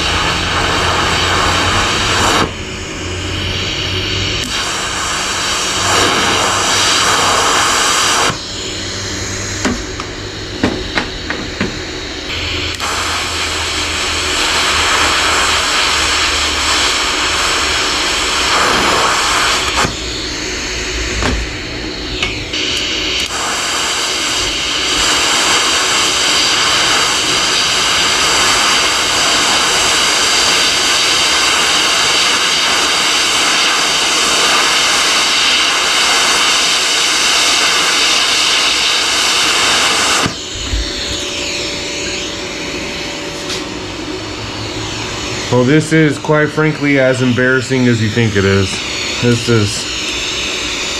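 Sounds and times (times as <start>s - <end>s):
welding arc hiss-buzz: 0.0s - 50.9s.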